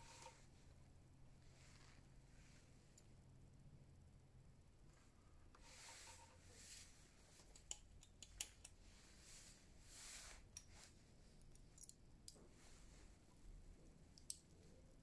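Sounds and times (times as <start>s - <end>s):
soft rustling: 0.0s - 3.3s, 4.8s - 7.6s, 8.8s - 15.0s.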